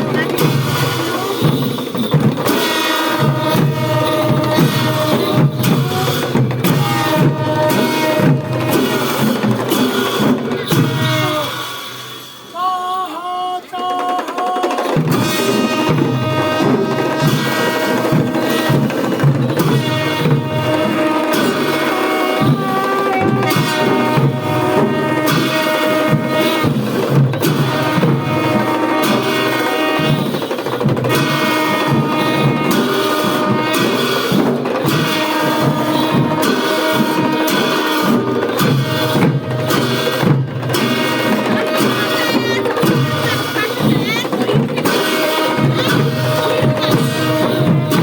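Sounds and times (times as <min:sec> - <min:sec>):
drums: 0:00.0 - 0:48.0.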